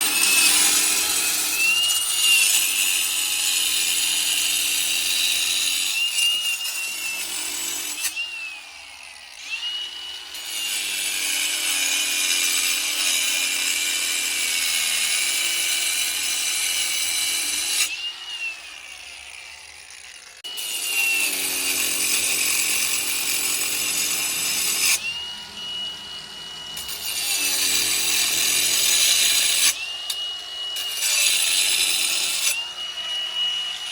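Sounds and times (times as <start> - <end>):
power saw cutting: 0.0 - 33.9.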